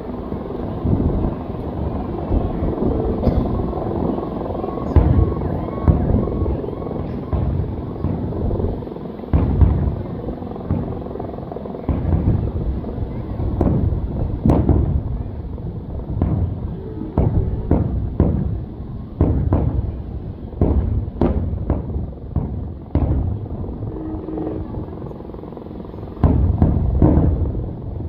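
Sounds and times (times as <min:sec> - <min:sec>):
fireworks booming: 0:00.0 - 0:11.2, 0:11.8 - 0:25.3, 0:25.9 - 0:28.0
deep rumble: 0:00.0 - 0:28.0.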